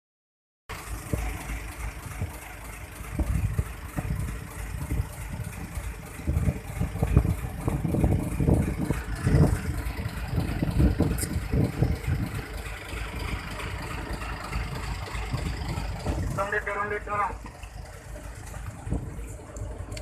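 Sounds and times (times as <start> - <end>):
small boat engine running: 0.7 - 20.0.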